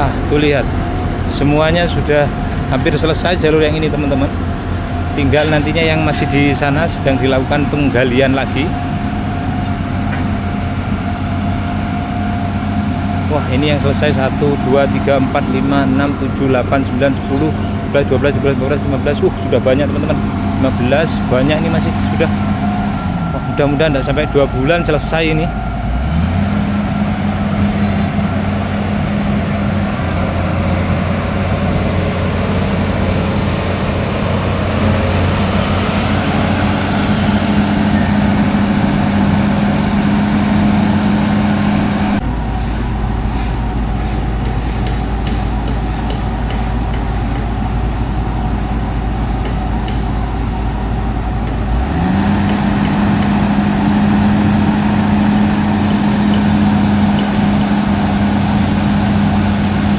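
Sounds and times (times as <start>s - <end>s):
heavy engine humming: 0.0s - 59.9s.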